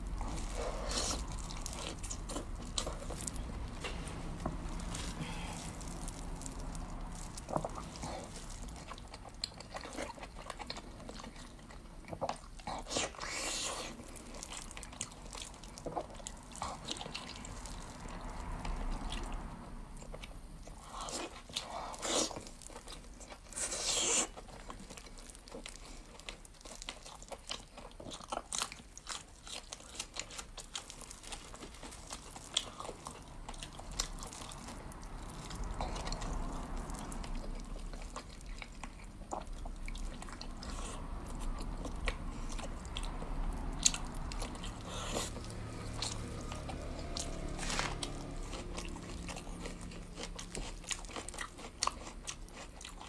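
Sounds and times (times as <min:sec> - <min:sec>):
crunchy chewing with wet clicks: 0:00.0 - 0:53.0.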